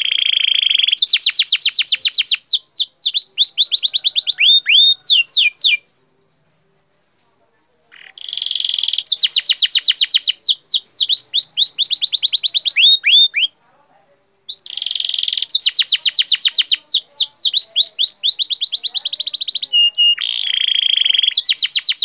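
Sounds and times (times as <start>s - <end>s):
bird chirping song: 0.0s - 6.5s, 7.9s - 13.6s, 14.4s - 22.0s.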